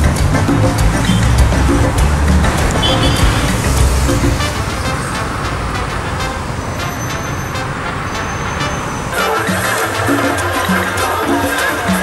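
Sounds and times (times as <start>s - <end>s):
music: 0.0s - 7.7s, 8.6s - 12.0s
bus and car engines running: 0.0s - 12.0s
city street traffic: 0.0s - 12.0s.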